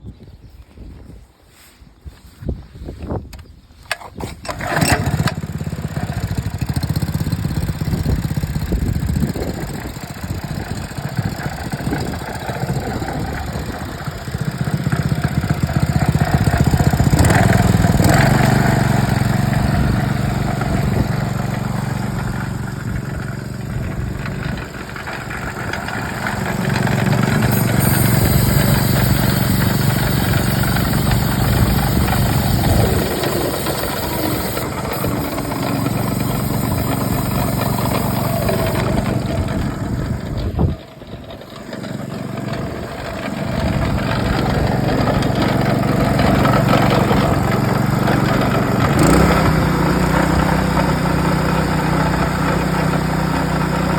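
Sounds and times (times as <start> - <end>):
petrol engine pump running: 3.9 - 53.9.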